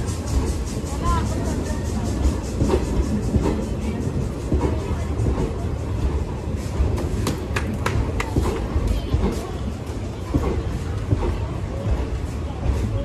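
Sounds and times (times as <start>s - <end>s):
train wheels rumbling on rails: 0.0s - 13.0s
wheels clicking over rail joints: 0.0s - 13.0s.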